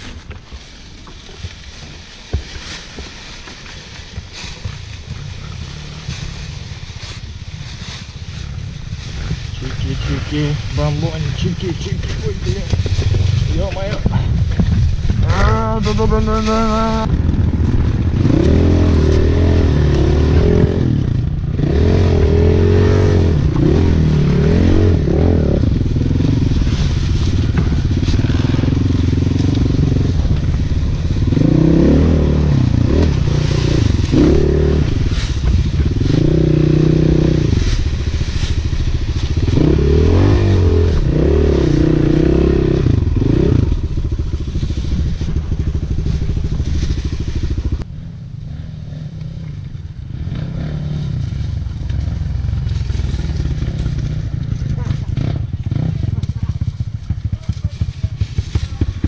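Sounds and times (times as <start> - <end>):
dirt bike engine revving: 2.9 - 59.0.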